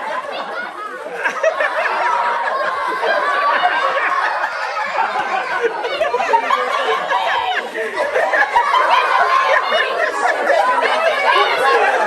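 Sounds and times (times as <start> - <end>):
people chattering: 0.0 - 12.0
people laughing: 0.0 - 12.0.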